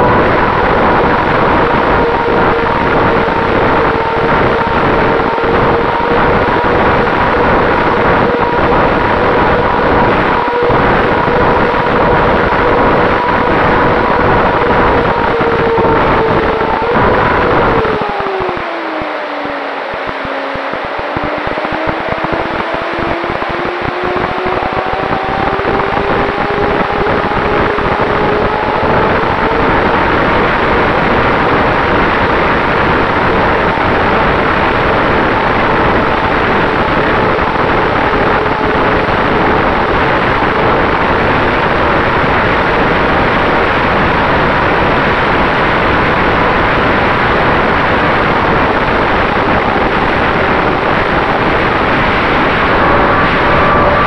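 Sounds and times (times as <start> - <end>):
electric motor and propeller whine: 0.0 - 54.0
wind rush on microphone: 0.0 - 54.0.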